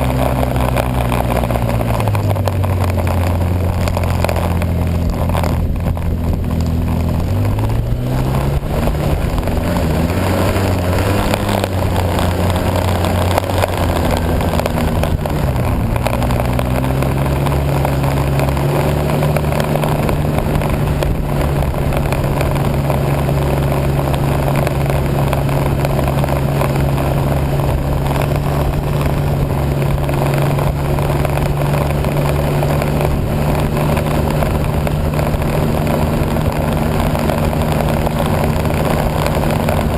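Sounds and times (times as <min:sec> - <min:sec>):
rushing wind noise: 0:00.0 - 0:39.9
vehicle engine revving: 0:00.0 - 0:39.9.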